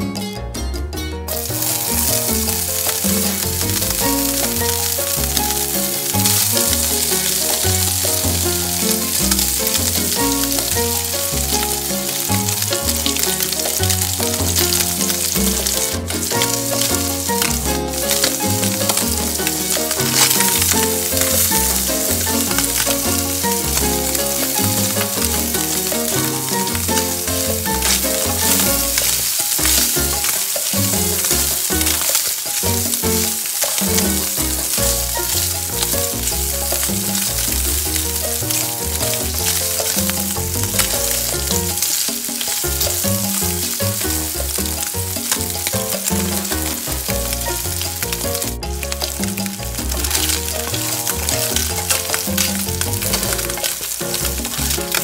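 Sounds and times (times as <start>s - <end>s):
background music with bass line: 0.0s - 55.0s
food sizzling in a pan: 1.3s - 55.0s
wooden spatula stirring: 1.3s - 55.0s.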